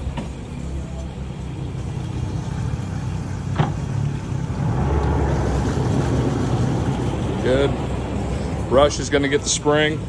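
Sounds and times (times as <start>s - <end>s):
outboard motors rumbling: 0.0s - 10.0s.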